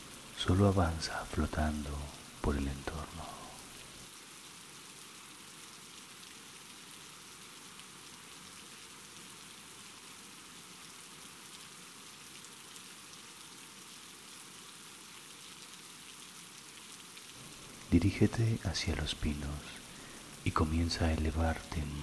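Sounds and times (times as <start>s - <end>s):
steady rain patter: 0.0s - 22.0s.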